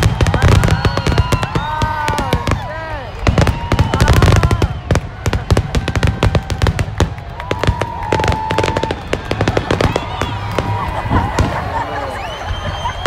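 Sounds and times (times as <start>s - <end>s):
whistling firework shells: 0.0s - 2.6s, 3.2s - 13.0s
fireworks cracks and bangs: 0.0s - 13.0s.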